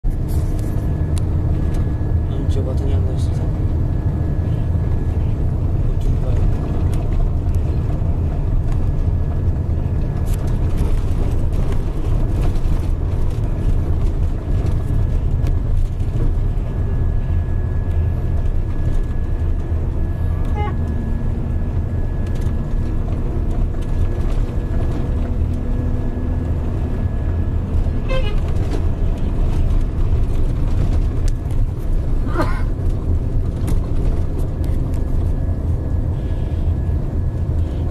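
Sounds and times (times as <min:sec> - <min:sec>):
road noise: 0:00.0 - 0:37.9
vehicle engine rumble: 0:00.0 - 0:37.9
faint steady whine: 0:00.1 - 0:37.9.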